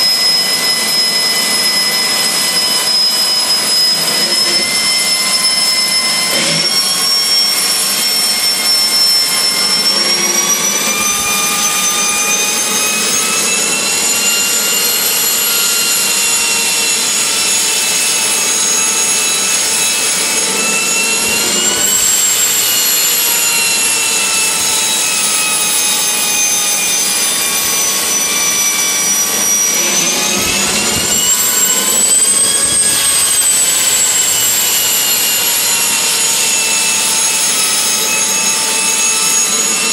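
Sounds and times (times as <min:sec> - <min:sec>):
gas turbine whine and roar: 0:00.0 - 0:39.9.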